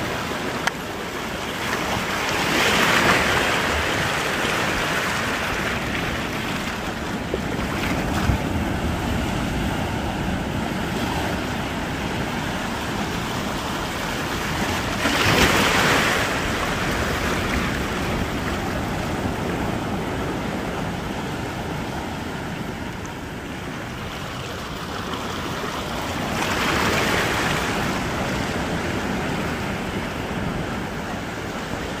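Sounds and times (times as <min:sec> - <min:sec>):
ocean surf washing on beach: 0:00.0 - 0:32.0.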